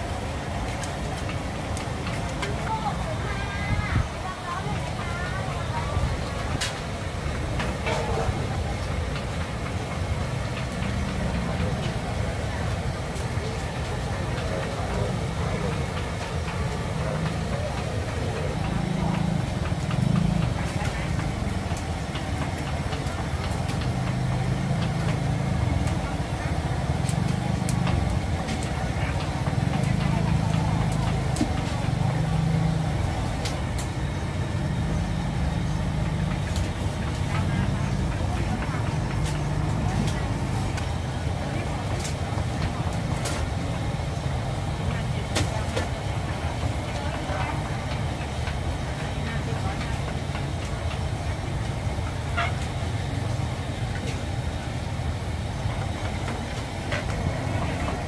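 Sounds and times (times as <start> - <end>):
engine idling: 0.0 - 58.0
traffic rumble: 0.0 - 58.0
voices: 0.0 - 58.0.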